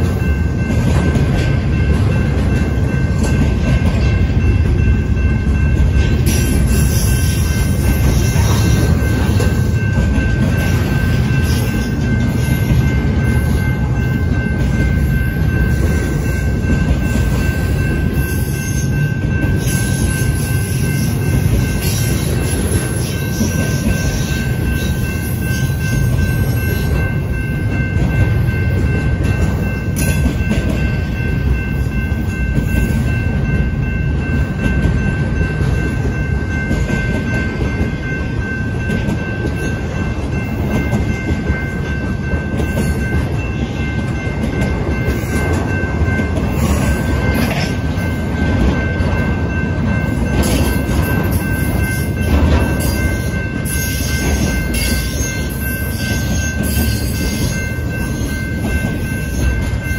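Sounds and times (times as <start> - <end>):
freight train wheels rumbling: 0.0 - 59.9
high-pitched ringing tone: 0.0 - 59.9.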